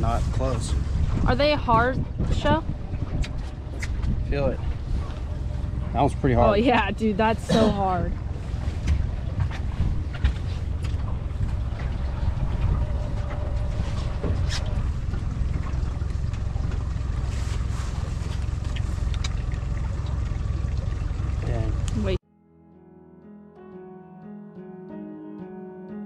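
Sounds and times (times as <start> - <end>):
boat noise: 0.0 - 22.2
wind rumble on microphone: 0.0 - 22.2.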